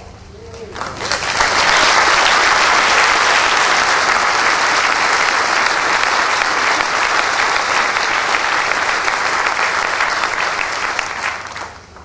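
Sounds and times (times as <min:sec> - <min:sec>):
audience applauding: 0:00.7 - 0:12.0.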